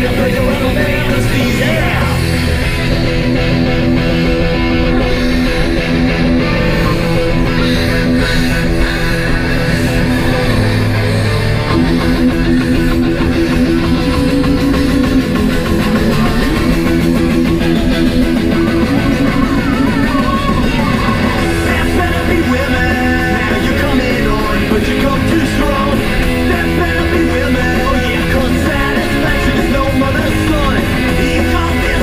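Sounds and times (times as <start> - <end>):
rock song playing: 0.0 - 32.0.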